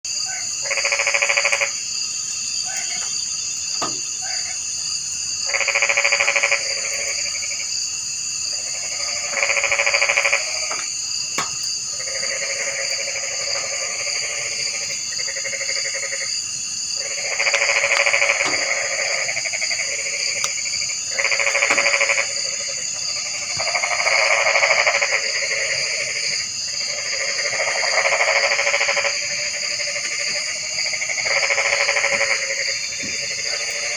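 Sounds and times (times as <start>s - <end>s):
frogs calling: 0.0s - 33.9s.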